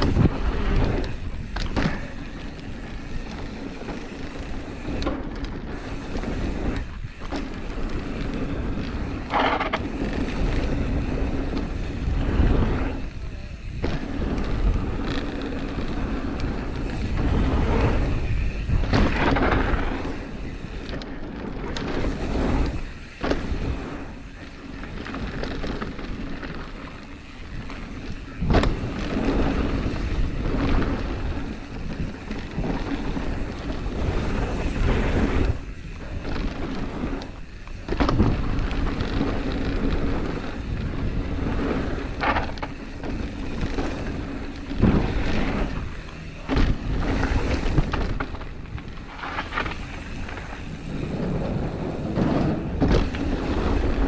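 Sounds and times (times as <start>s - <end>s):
bike knocking and rattling: 0.0s - 54.0s
tyres rumbling on trail: 0.0s - 54.0s
wind buffeting microphone: 0.0s - 54.0s.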